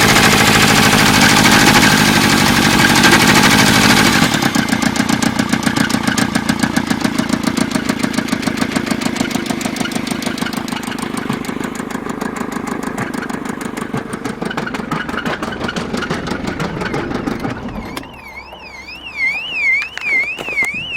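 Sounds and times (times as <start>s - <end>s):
diesel engine knocking: 0.0s - 19.5s.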